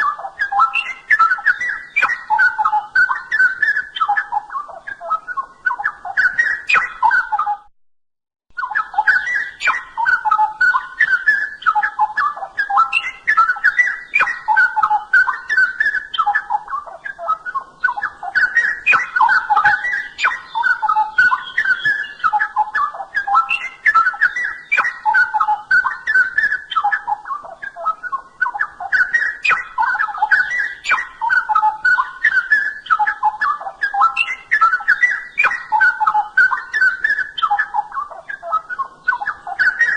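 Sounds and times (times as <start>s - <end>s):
bird singing bubbling song: 0.0s - 7.7s, 8.5s - 39.9s.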